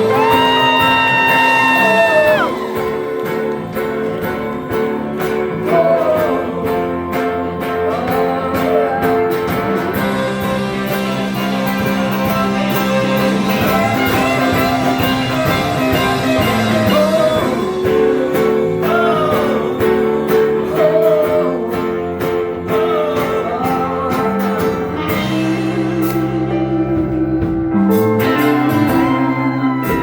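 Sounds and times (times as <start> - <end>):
live rock band playing: 0.0 - 30.0
sliding lead guitar melody: 0.0 - 30.0.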